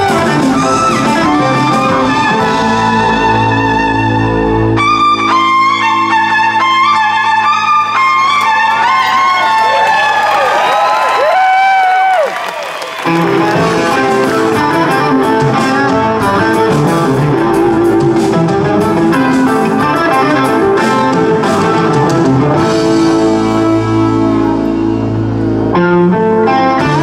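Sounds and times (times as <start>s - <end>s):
bass guitar and drums: 0.0s - 9.9s, 13.0s - 27.0s
electric guitar riff: 0.0s - 10.0s, 13.0s - 27.0s.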